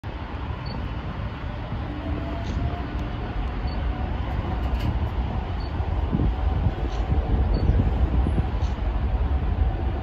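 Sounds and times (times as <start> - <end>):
distant jet airliner rumble: 0.1 - 10.0.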